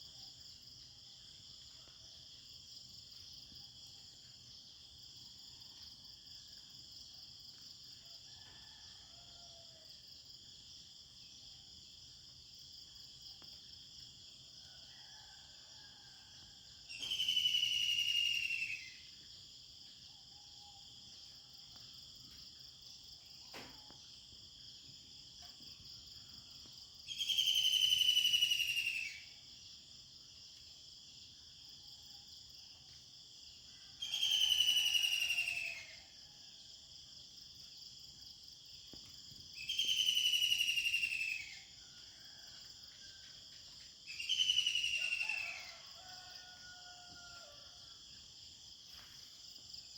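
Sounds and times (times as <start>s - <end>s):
insects chirping: 0.0s - 49.9s.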